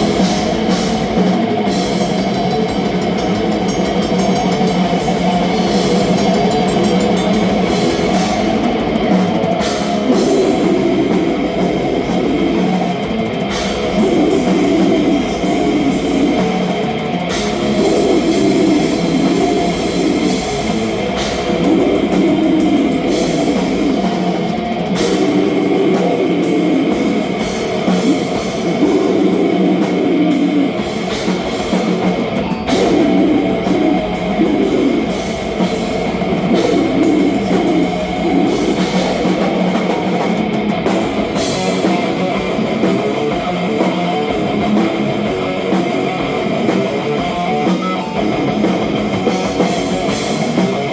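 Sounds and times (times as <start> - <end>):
death metal band playing: 0.0 - 50.9.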